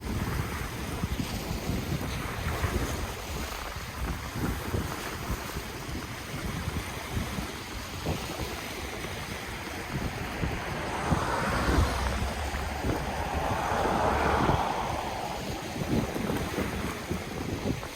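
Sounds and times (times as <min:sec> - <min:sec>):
ocean waves washing in: 0:00.0 - 0:17.9
wind rumble on microphone: 0:00.0 - 0:17.9.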